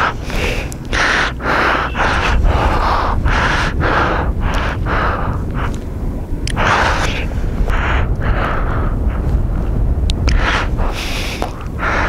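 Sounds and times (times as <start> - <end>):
person breathing hard: 0.0 - 12.0
wind rumble on microphone: 0.0 - 12.0.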